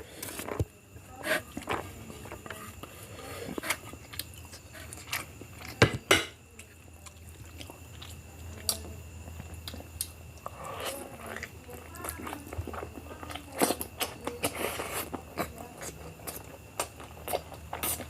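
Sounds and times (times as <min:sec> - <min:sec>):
person chewing food: 0:01.4 - 0:05.8, 0:06.5 - 0:18.0.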